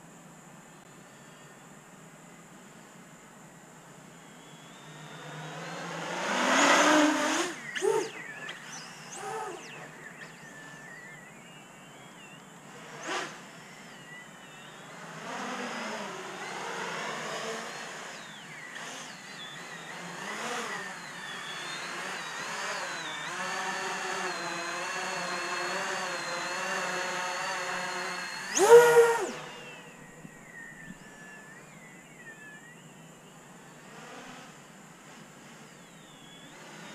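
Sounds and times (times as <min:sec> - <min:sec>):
drone motors and propellers humming: 0:00.0 - 0:36.9.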